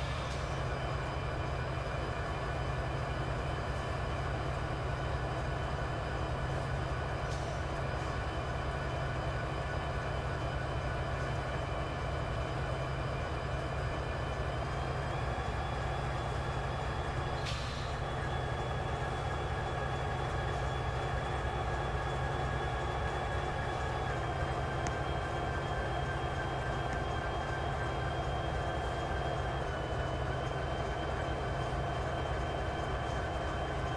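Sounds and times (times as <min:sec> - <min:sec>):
train rumbling: 0:00.0 - 0:33.9.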